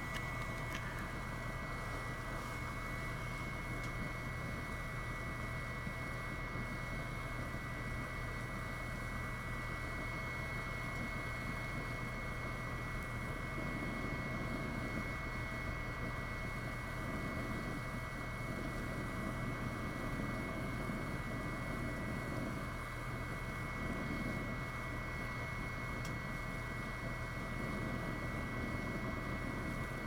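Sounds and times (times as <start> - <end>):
stove fans whirring: 0.0 - 30.0
water boiling: 0.0 - 30.0.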